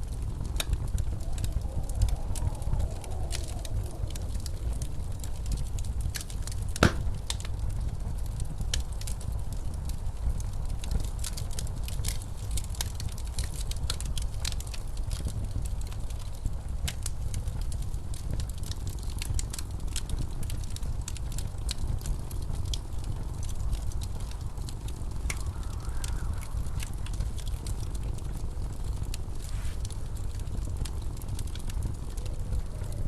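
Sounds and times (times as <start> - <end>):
snowstorm wind rumble: 0.0 - 33.0
wood fire crackling: 0.0 - 33.0.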